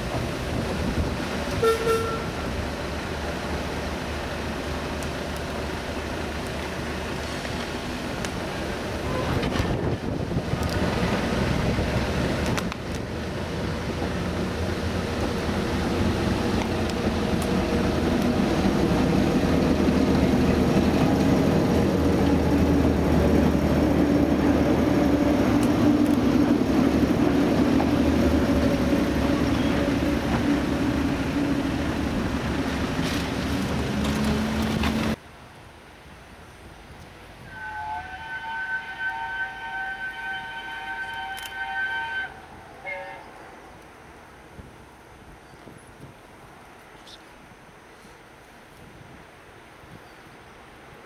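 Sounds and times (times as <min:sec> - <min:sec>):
train running past: 0:00.0 - 0:35.2, 0:37.2 - 0:44.7.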